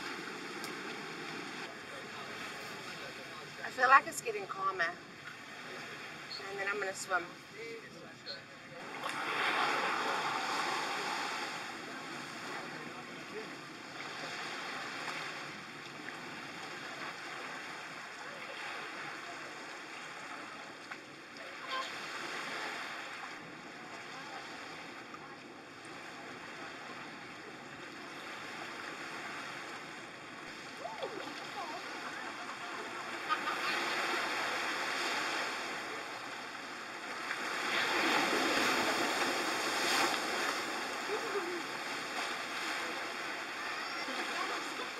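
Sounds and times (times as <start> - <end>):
waves washing over sand: 0.0 - 44.9.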